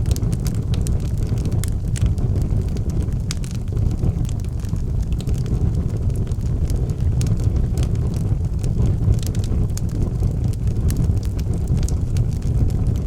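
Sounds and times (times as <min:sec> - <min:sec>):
log fire crackling and popping: 0:00.0 - 0:13.0
low rumble of flames: 0:00.0 - 0:13.0.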